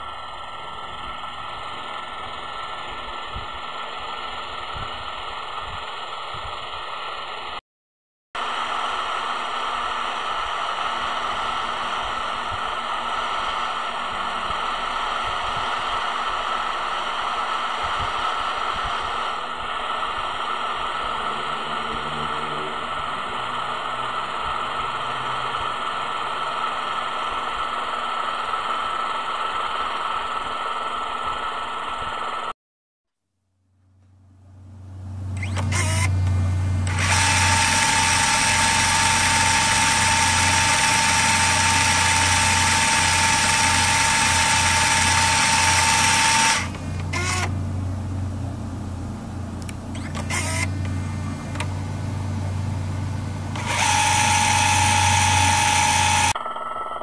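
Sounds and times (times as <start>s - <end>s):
helicopter engine and rotor noise: 0.0s - 7.6s, 8.4s - 32.5s, 34.6s - 57.0s.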